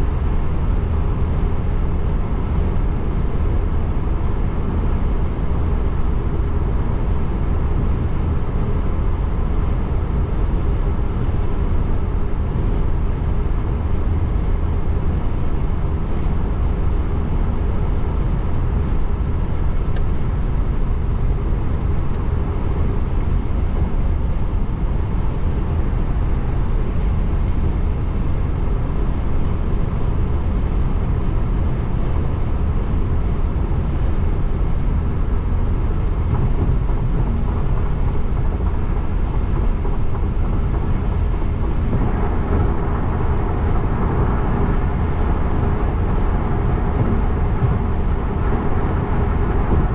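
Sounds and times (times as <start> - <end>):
deep rumble: 0.0 - 49.9.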